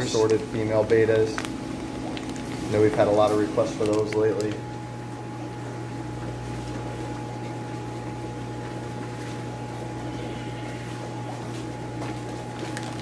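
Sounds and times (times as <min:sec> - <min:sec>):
aquarium air pumps bubbling: 0:00.0 - 0:13.0
faint steady whine: 0:00.0 - 0:13.0.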